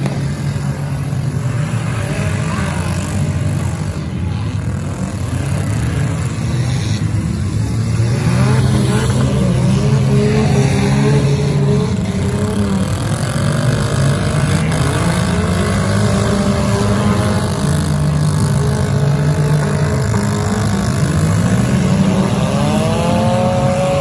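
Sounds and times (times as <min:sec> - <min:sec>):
car engines revving loudly: 0:00.0 - 0:24.0.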